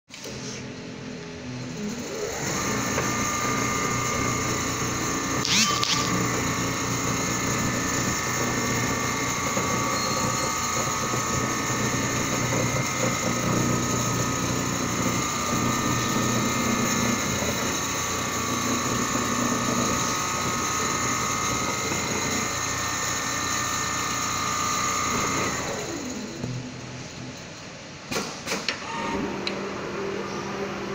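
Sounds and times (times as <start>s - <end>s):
sewing machine mechanical whine: 1.5s - 27.8s.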